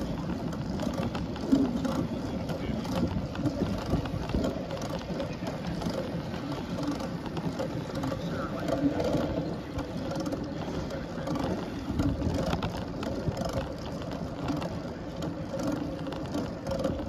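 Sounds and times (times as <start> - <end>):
bike ticking and rattling: 0.0 - 17.0
wind and tyre noise: 0.0 - 17.0.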